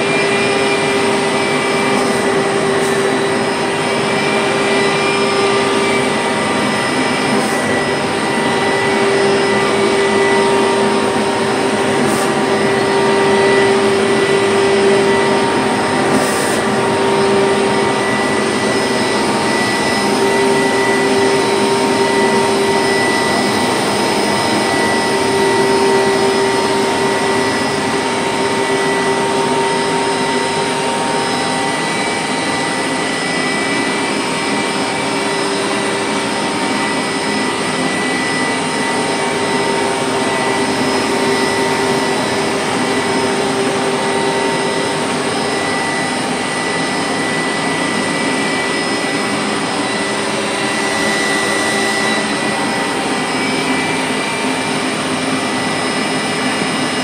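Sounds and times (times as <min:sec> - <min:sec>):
carpet cleaner running: 0:00.0 - 0:57.0.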